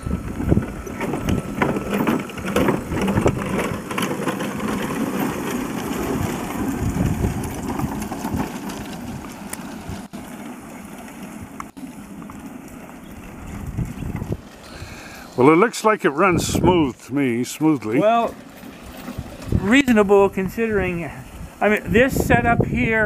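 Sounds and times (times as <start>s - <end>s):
small riding train running: 0.0s - 23.0s.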